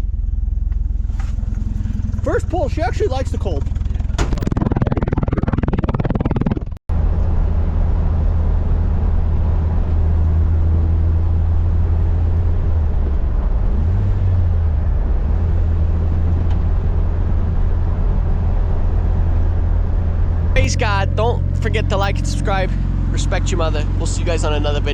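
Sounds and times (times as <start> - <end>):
engine droning: 0.0 - 24.9.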